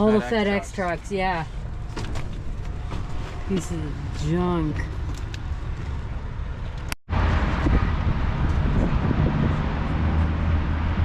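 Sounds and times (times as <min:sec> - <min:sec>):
steady low rumble: 0:00.0 - 0:11.0
wind buffeting microphone: 0:00.6 - 0:11.0.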